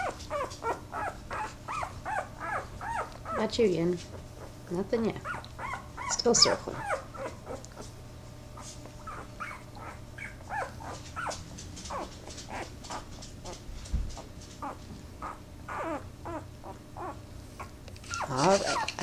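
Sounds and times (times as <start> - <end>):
puppies whimpering and squeaking: 0.0 - 19.0.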